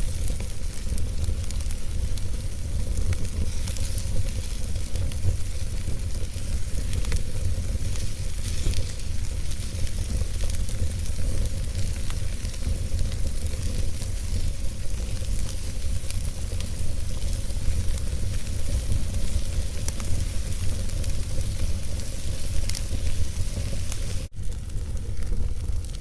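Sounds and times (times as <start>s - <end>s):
fire crackling and popping: 0.0s - 26.0s
low rumble: 0.0s - 26.0s
steady hiss: 0.0s - 26.0s.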